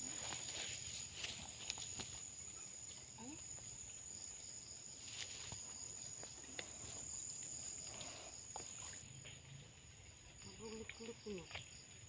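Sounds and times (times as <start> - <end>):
insects chorus: 0.0 - 12.0
water splashes and drips: 0.0 - 12.0.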